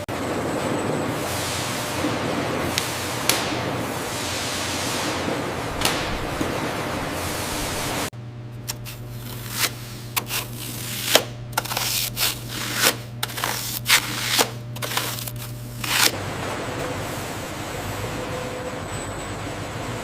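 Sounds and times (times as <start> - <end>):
machinery humming: 0.0 - 20.0.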